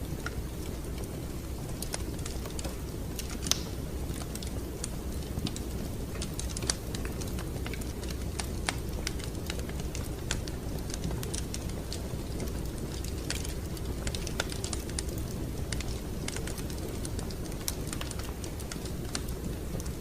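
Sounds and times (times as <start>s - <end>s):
low fire rumble: 0.0s - 20.0s
wood fire crackling: 0.0s - 20.0s
fire pops and snaps: 0.2s - 20.0s.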